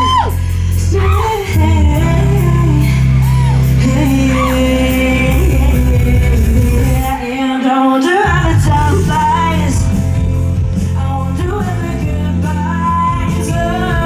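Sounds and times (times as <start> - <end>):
long held bass notes: 0.0 - 7.2, 8.4 - 14.0
person singing: 0.0 - 14.0
rock band playing: 0.0 - 14.0.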